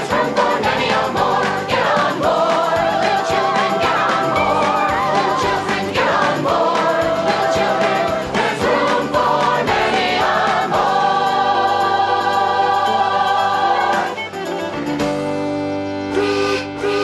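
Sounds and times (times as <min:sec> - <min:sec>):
choir singing: 0:00.0 - 0:14.3.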